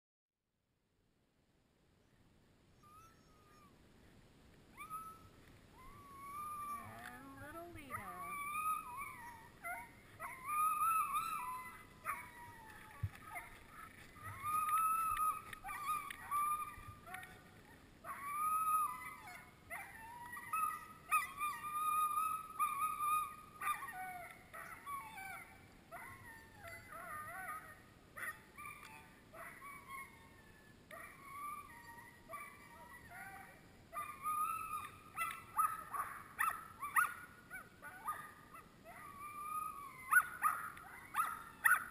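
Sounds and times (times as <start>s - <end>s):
huskies whining and howling: 2.8s - 3.8s, 4.7s - 41.9s.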